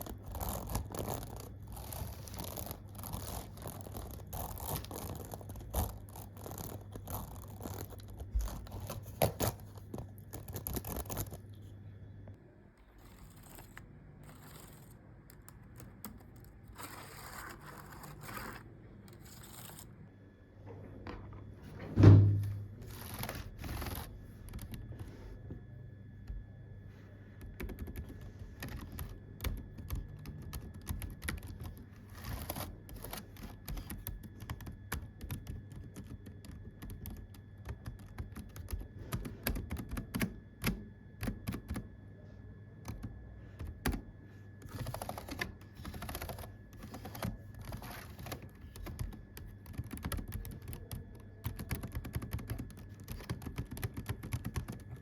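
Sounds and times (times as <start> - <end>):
computer keyboard typing: 0.0 - 11.4, 13.0 - 19.8, 22.8 - 25.1, 27.4 - 41.9, 42.8 - 55.0
low steady hum: 0.0 - 55.0.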